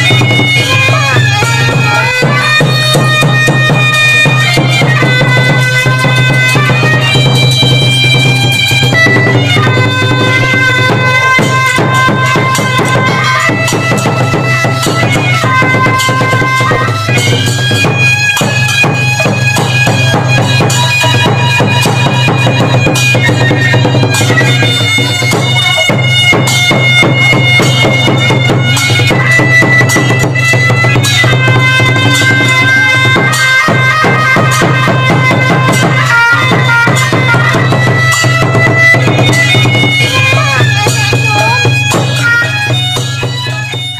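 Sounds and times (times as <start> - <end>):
driving drum beat: 0.0 - 43.9
reed wind instrument melody: 0.0 - 43.9.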